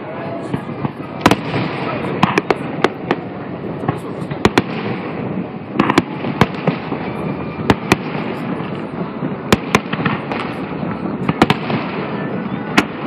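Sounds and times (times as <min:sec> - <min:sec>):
fireworks bursting: 0:00.0 - 0:13.0
small fireworks pops: 0:00.0 - 0:13.0
steady noisy background: 0:00.0 - 0:13.0.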